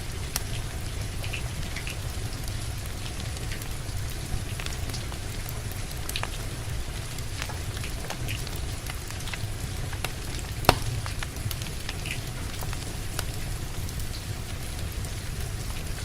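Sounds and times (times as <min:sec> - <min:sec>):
rain hissing: 0:00.0 - 0:16.0
wood fire crackling and popping: 0:00.0 - 0:16.0.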